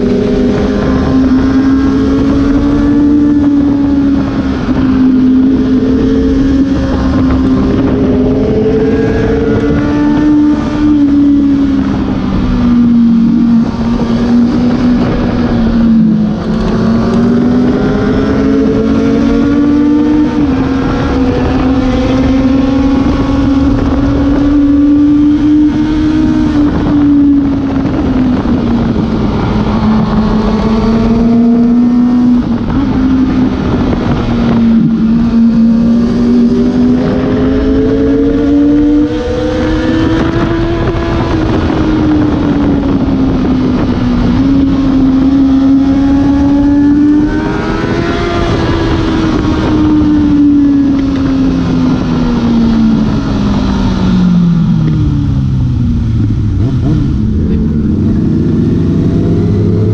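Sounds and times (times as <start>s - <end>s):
loud wind rush: 0.0s - 59.9s
motorcycle engine revving hard: 0.0s - 59.9s.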